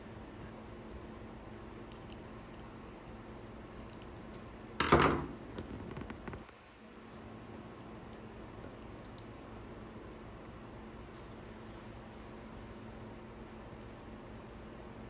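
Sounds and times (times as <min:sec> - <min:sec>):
faint steady room hum: 0:00.0 - 0:15.0.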